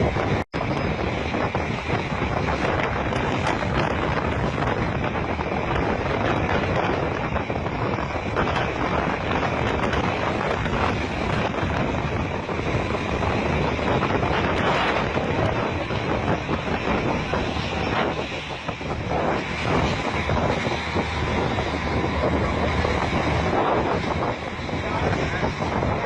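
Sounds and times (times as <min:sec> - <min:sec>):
rough sea: 0:00.0 - 0:26.0
wind buffeting microphone: 0:00.0 - 0:26.0
wind rushing: 0:00.0 - 0:26.0.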